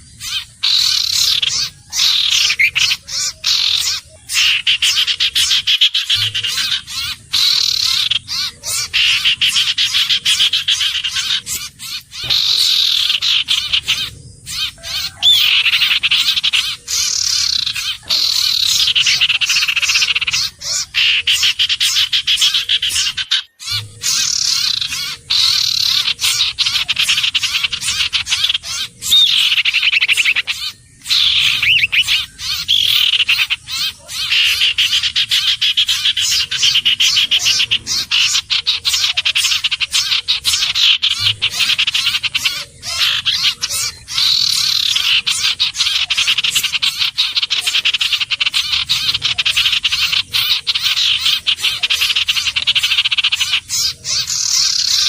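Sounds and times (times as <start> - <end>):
bird calling with rapid trills: 0.0 - 55.0.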